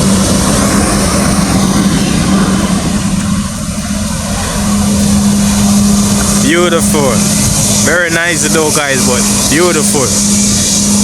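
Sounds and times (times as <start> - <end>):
airliner engines droning: 0.0 - 11.0.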